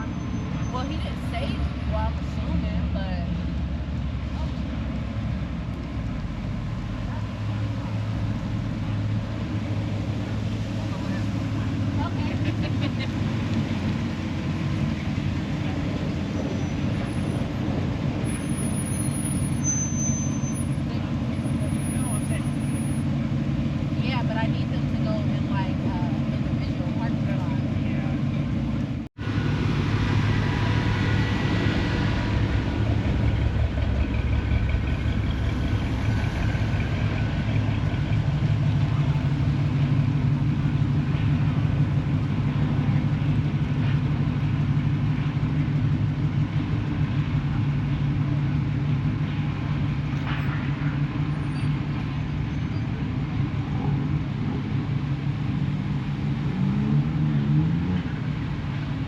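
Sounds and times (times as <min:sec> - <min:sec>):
vehicle engine idling: 0:00.0 - 0:56.3.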